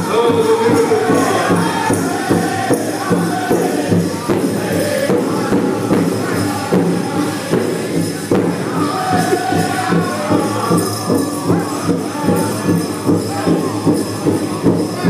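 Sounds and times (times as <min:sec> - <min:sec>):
large drum steady beat: 0:00.0 - 0:15.0
men singing together: 0:00.0 - 0:15.0.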